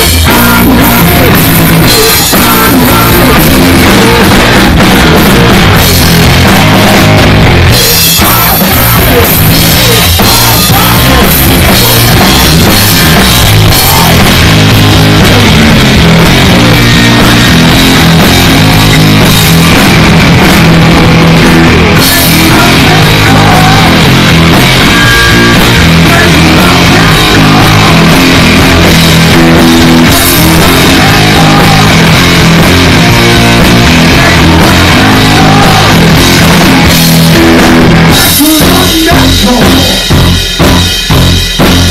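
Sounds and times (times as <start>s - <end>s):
heavy metal band playing: 0.0s - 41.9s.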